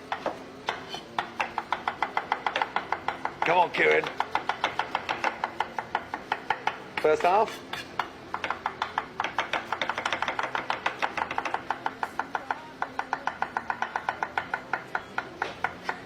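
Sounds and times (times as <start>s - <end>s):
knife chopping onion on cutting board: 0.0s - 16.0s.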